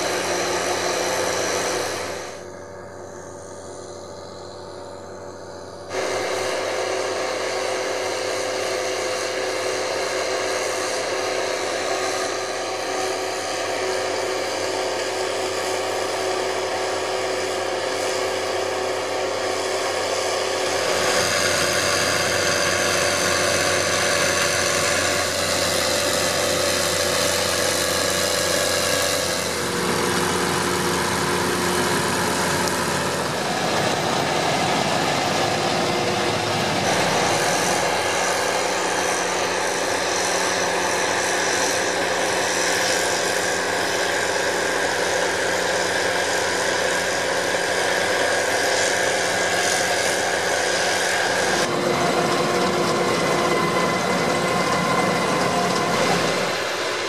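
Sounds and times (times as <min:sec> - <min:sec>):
tractor engines running under load: 0:00.0 - 0:57.0.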